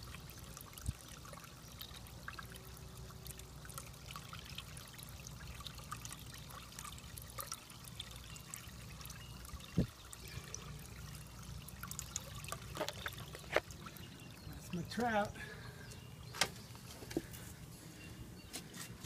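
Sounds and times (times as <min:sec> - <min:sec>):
water trickling: 0:00.0 - 0:17.8.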